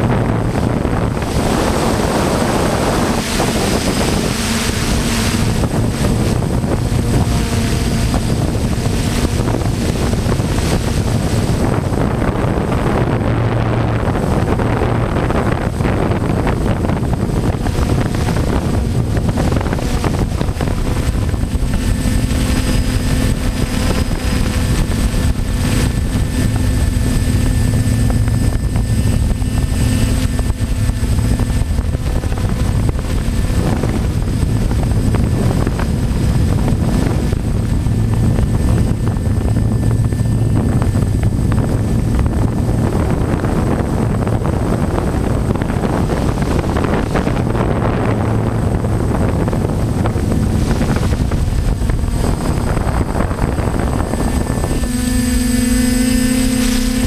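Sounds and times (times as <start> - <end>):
drone motors and propellers: 0.0 - 57.0
wind buffeting microphone: 0.0 - 57.0.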